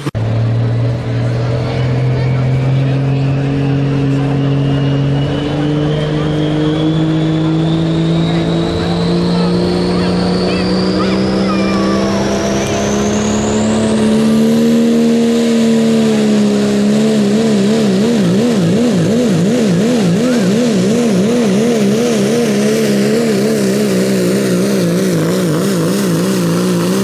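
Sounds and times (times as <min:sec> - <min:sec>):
diesel truck engine at full throttle: 0:00.0 - 0:27.0.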